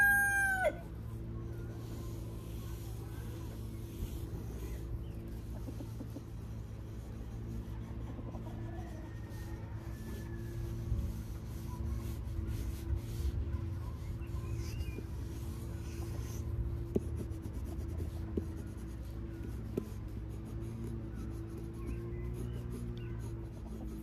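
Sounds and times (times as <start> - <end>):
steady low hum: 0.0 - 24.0
pencil scratching on paper: 1.7 - 24.0.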